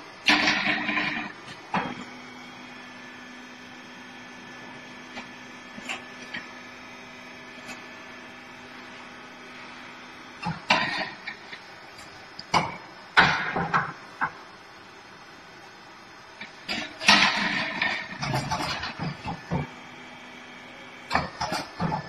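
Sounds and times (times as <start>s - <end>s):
tire changer motor hum: 0.0s - 22.0s.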